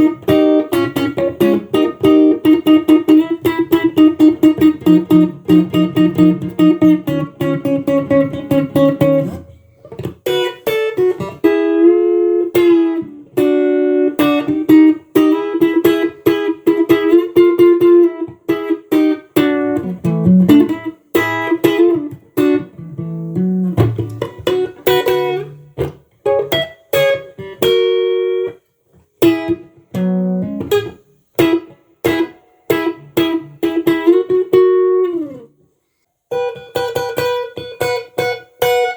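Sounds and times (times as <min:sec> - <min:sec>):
clean electric guitar melody: 0:00.0 - 0:35.6, 0:36.3 - 0:38.9.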